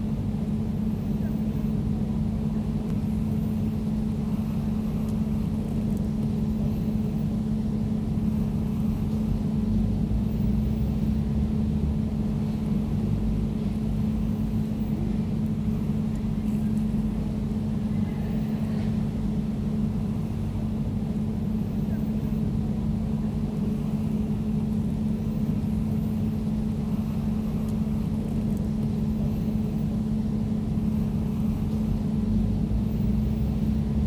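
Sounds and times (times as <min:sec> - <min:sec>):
air conditioner humming: 0:00.0 - 0:34.0.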